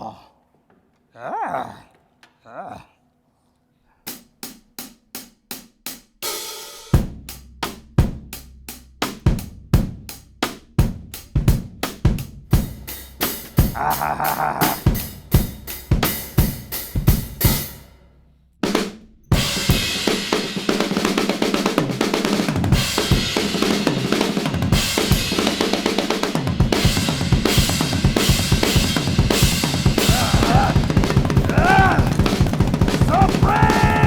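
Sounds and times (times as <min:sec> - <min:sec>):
drum kit playing: 0:04.2 - 0:18.0, 0:18.6 - 0:34.0.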